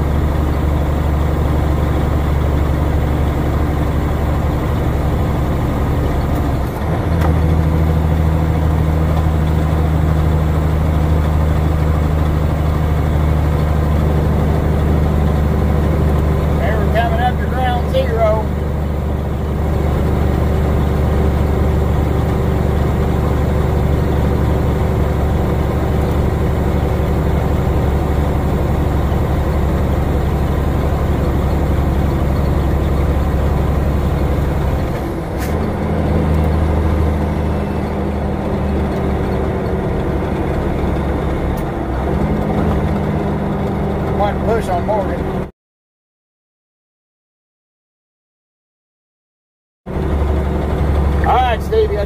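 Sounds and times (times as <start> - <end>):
truck diesel engine from cab: 0.0 - 45.5, 49.9 - 52.0.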